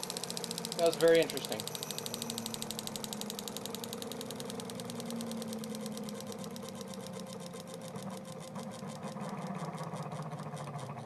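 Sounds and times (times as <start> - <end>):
rhythmic ticking of spinning rotors: 0.0 - 11.0
steady low hum: 0.0 - 11.0.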